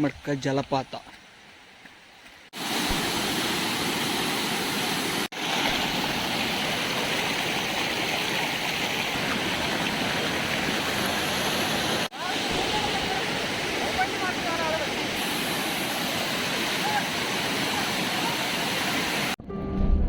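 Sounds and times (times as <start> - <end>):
waterfall rushing: 2.6 - 19.4.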